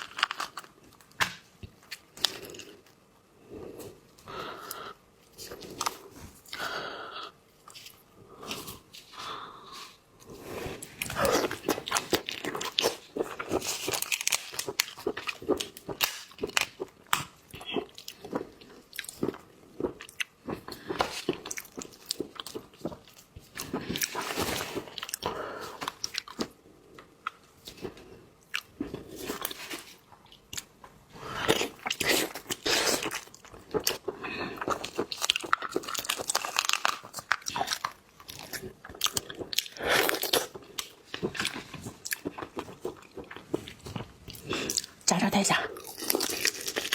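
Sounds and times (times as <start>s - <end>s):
person chewing crunchy food: 0.0s - 45.1s, 45.7s - 46.9s.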